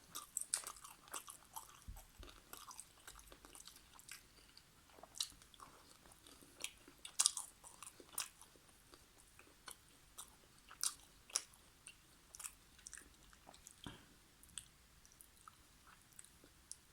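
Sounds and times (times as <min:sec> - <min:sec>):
person chewing food: 0:00.0 - 0:16.9.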